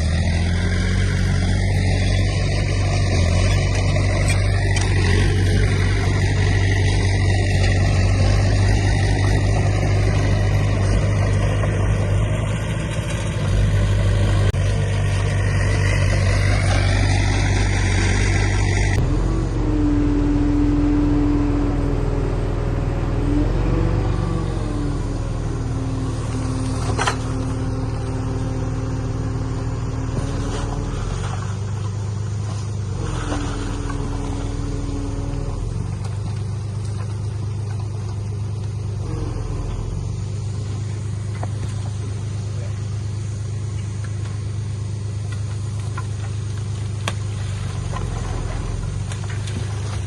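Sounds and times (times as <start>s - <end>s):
heavy diesel engine running: 0.0s - 50.0s
whine: 0.0s - 50.0s.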